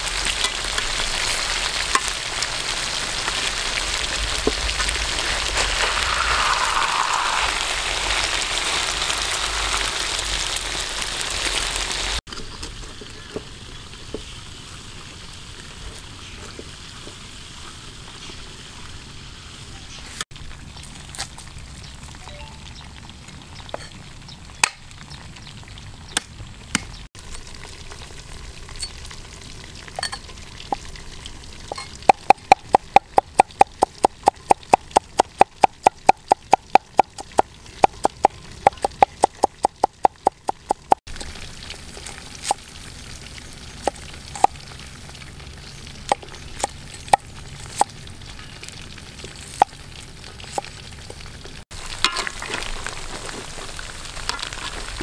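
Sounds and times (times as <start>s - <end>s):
deep-frying sizzle: 0.0s - 55.0s.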